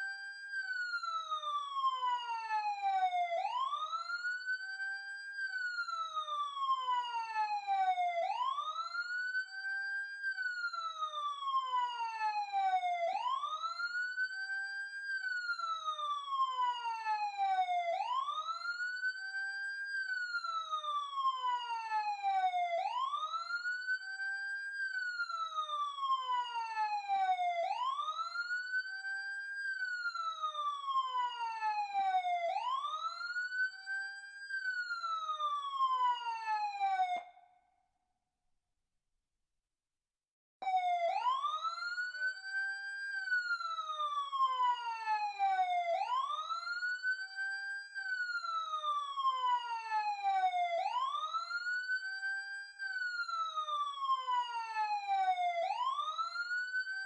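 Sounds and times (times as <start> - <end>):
emergency siren wailing: 0.0 - 37.5, 40.6 - 57.0.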